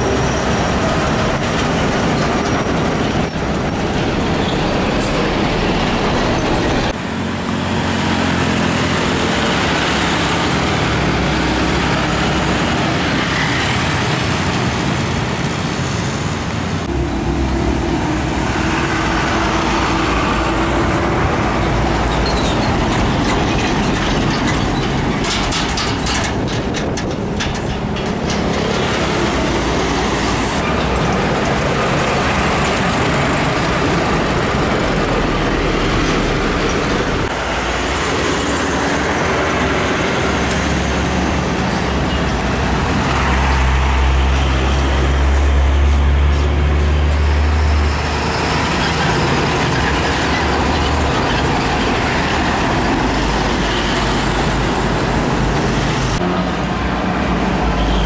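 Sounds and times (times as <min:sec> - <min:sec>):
heavy road traffic: 0:00.0 - 0:58.0.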